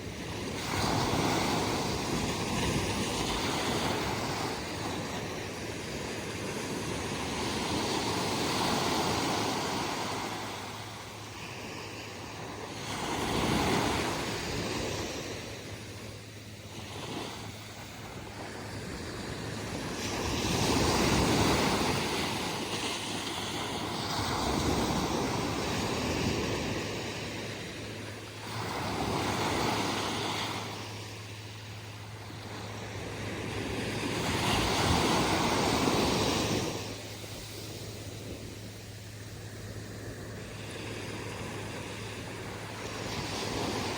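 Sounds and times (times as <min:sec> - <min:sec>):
ocean waves breaking on beach: 0:00.0 - 0:43.9.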